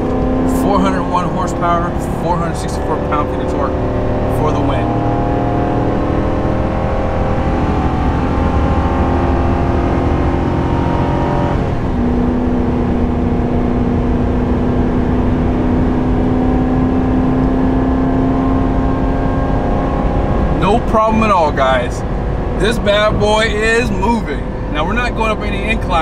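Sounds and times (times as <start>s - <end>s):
truck engine accelerating hard: 0.0s - 26.0s.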